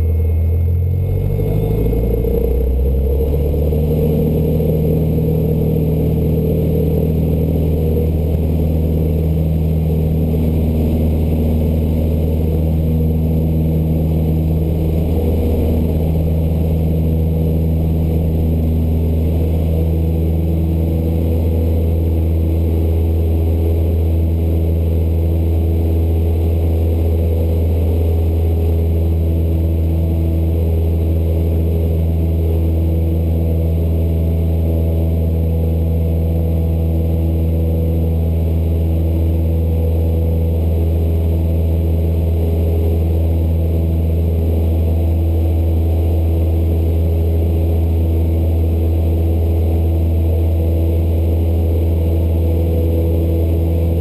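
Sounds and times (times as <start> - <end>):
aircraft engine and propeller: 0.0 - 54.0.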